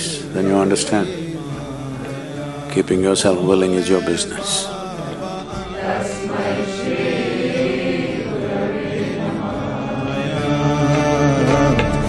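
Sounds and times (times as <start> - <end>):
choir singing a chant: 0.0 - 12.0.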